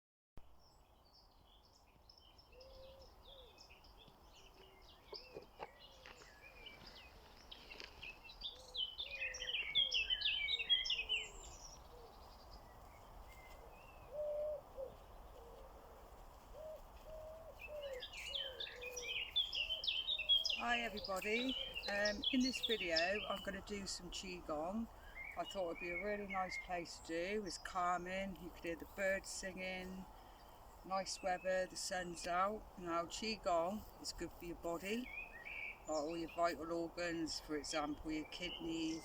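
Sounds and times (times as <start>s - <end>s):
faint outdoor background noise: 0.4s - 39.0s
birds singing and chirping: 0.6s - 39.0s
low repeated bird calls: 0.6s - 39.0s.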